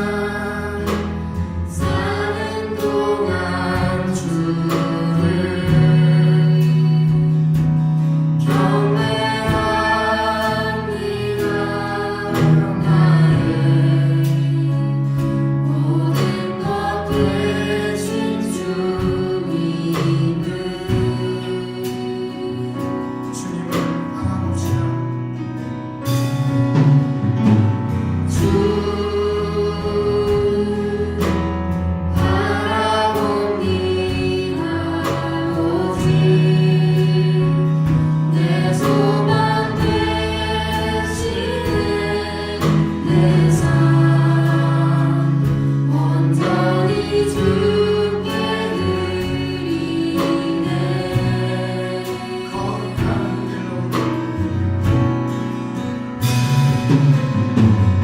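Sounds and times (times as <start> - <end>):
voices singing: 0.0 - 24.9, 28.3 - 54.8
band playing worship song: 0.0 - 58.0.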